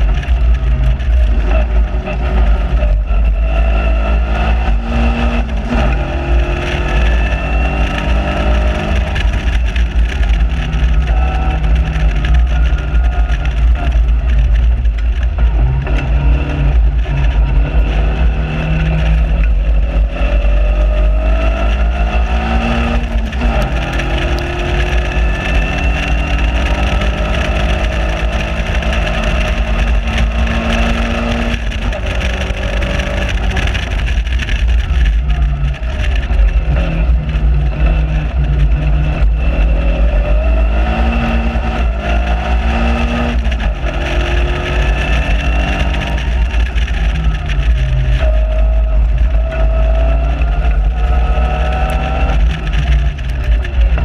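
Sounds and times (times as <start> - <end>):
sports car engine revving: 0.0 - 54.0
wind rumble on microphone: 0.0 - 54.0.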